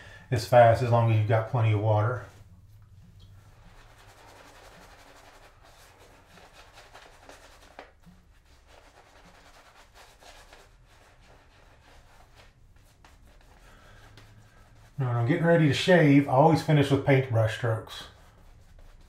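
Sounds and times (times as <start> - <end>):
shaving brush rubbing lather: 0.4 - 19.0.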